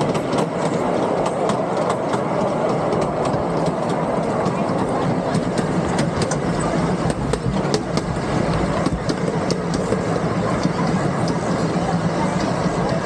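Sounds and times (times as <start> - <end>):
miniature train engine hum: 0.0 - 13.0
wheels clicking and clattering: 0.0 - 13.0.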